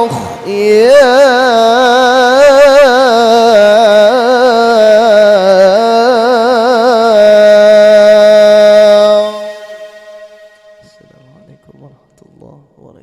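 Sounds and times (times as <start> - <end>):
man chanting melismatic prayer: 0.0 - 13.0.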